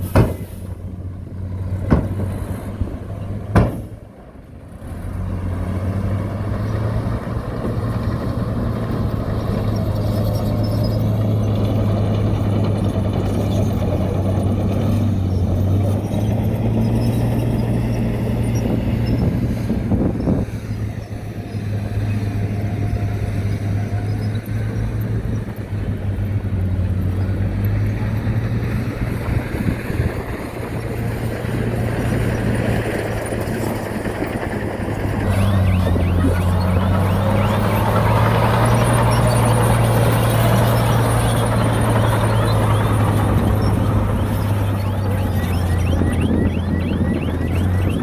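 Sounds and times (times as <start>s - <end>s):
heavy diesel engine humming: 0.0s - 48.0s.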